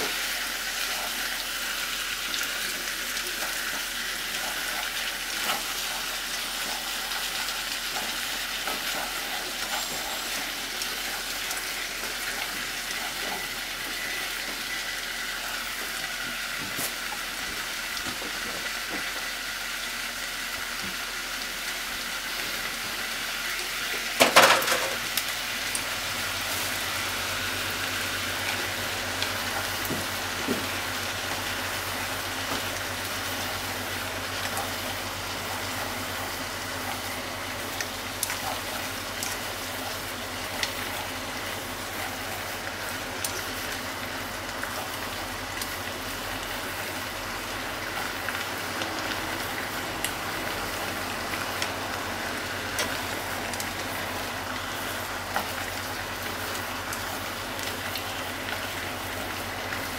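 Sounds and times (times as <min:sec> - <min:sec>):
food sizzling in a pot: 0:00.0 - 0:59.9.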